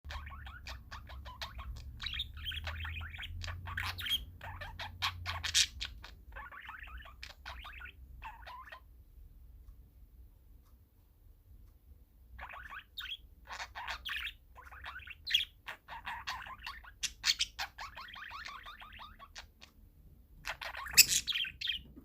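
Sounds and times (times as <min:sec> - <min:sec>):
parakeets chirping: 0:00.1 - 0:08.9, 0:12.4 - 0:19.8, 0:20.4 - 0:22.0.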